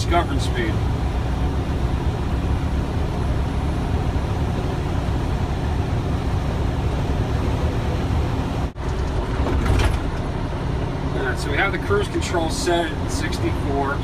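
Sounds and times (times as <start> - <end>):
road noise inside cab: 0.0 - 14.0
truck engine drone: 0.0 - 14.0.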